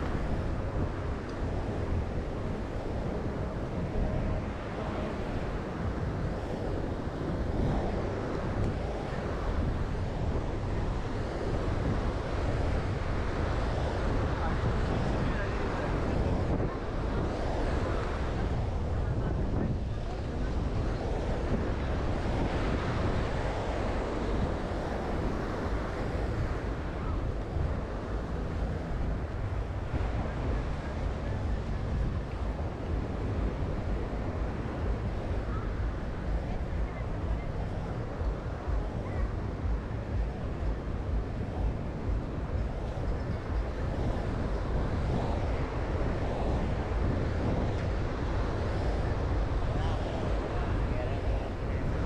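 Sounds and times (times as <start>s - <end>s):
ocean surf: 0.0s - 52.0s
wind buffeting microphone: 0.0s - 52.0s.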